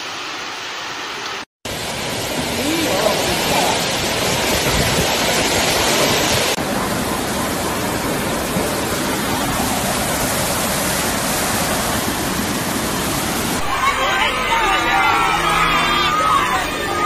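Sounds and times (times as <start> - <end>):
floodwater rushing in river: 0.0 - 17.0
heavy rainstorm rushing: 1.7 - 17.0.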